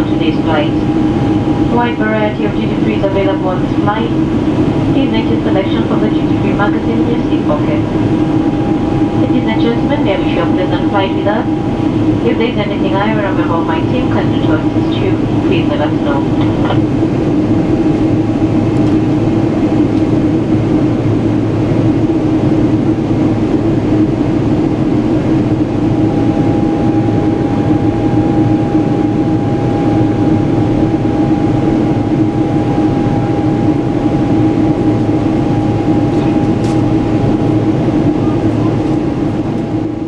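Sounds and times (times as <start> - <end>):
airliner engine drone: 0.0 - 40.0
constant low hum: 0.0 - 40.0
rushing airflow: 0.0 - 40.0.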